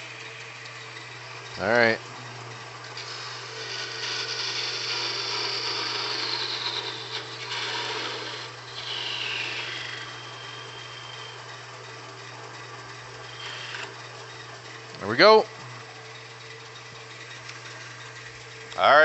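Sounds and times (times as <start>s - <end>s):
lathe motor hum: 0.0s - 19.0s
lathe tool cutting whine: 0.0s - 19.0s.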